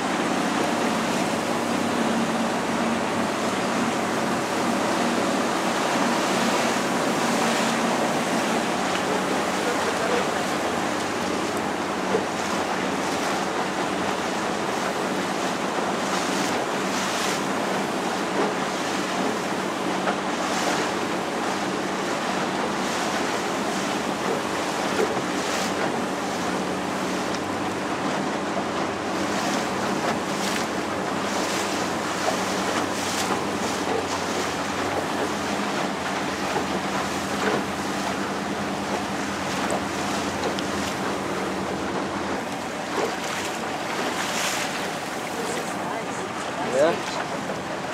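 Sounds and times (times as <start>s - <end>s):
motor boat engine running: 0.0s - 47.9s
water rushing along hull: 0.0s - 47.9s
water splashes: 0.0s - 47.9s.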